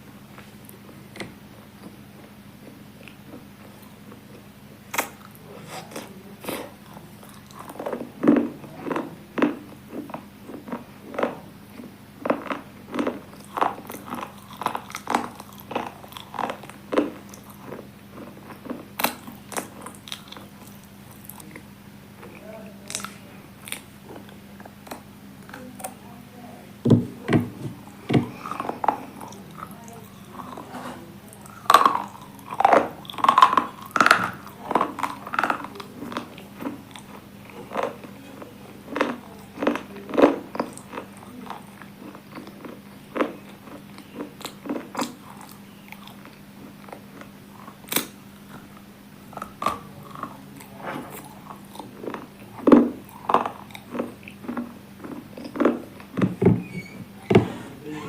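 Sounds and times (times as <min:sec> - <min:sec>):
person chewing crunchy food: 0:00.0 - 0:26.0, 0:27.0 - 0:56.4
faint steady hum: 0:00.0 - 0:58.0.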